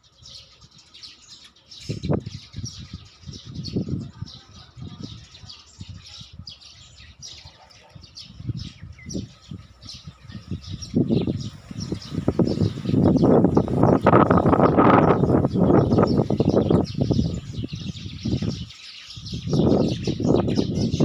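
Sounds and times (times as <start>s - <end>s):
small birds chirping: 0.0s - 21.0s
low rumbles on microphone: 1.9s - 6.5s, 7.9s - 21.0s.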